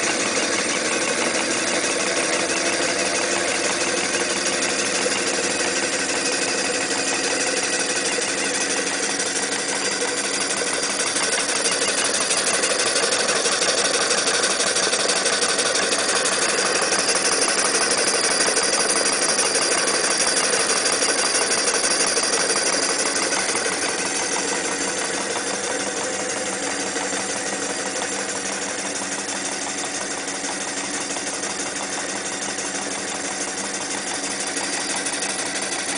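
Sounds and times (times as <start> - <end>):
toy steam engine clatter: 0.0 - 35.9.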